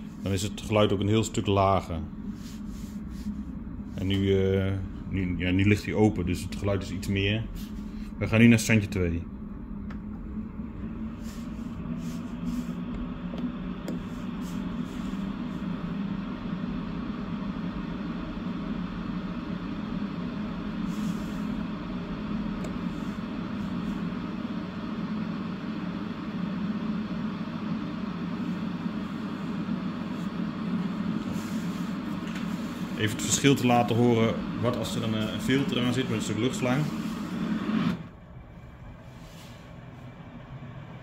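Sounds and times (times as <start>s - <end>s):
duct fan humming: 0.0s - 41.0s.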